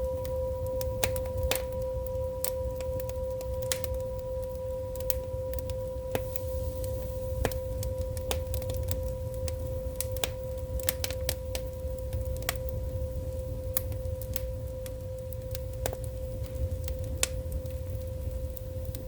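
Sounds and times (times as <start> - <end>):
fire crackling and popping: 0.0 - 19.0
low fire rumble: 0.0 - 19.0.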